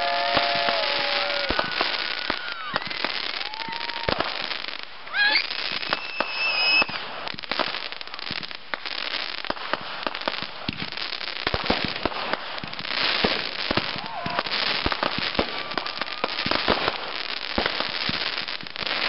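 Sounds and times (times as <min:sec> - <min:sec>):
fireworks crackling: 0:00.0 - 0:19.0
fireworks whistling: 0:00.0 - 0:19.0
fireworks sharp pops: 0:00.2 - 0:04.9, 0:05.6 - 0:19.0.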